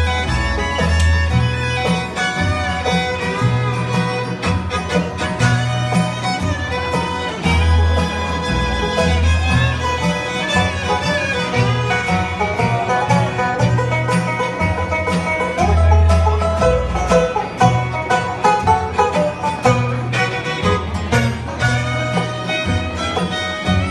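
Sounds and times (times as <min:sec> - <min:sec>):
banjo rolls: 0:00.0 - 0:23.9
bass: 0:00.0 - 0:23.9
fiddle: 0:00.0 - 0:23.9
guitar: 0:00.0 - 0:23.9.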